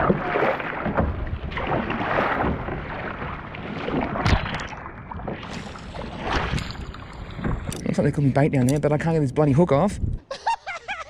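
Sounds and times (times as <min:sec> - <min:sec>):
water sloshing and splashing: 0:00.0 - 0:09.1.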